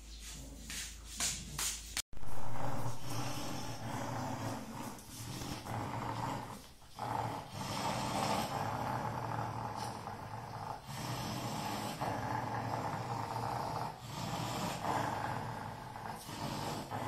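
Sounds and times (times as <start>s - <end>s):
dog growling: 2.2s - 17.0s.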